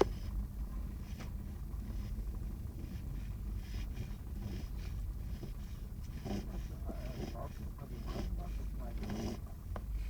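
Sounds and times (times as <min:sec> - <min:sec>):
steady low rumble: 0:00.4 - 0:10.0
puppy snoring softly: 0:01.0 - 0:09.7.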